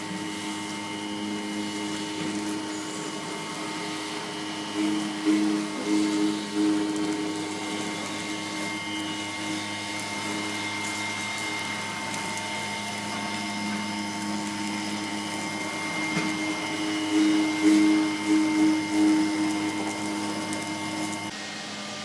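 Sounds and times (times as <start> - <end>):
low motor drone: 0.0 - 21.6
router spindle whine: 0.0 - 22.0.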